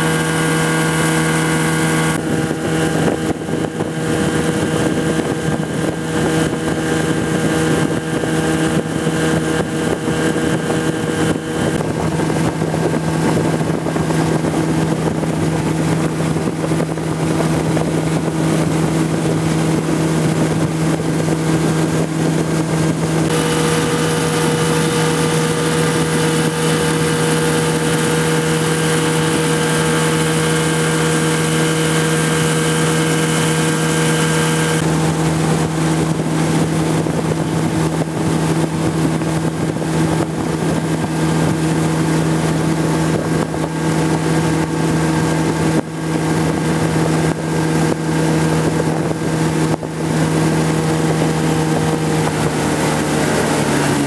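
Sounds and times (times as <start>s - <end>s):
motorboat engine drone: 0.0s - 54.0s
rushing water and wind: 0.0s - 54.0s.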